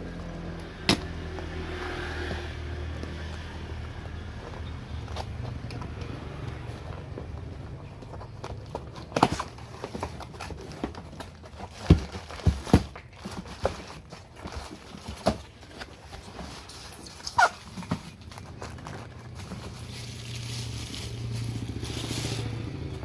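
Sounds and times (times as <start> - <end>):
objects knocking and tapping: 0.2 - 1.6, 2.3 - 21.9.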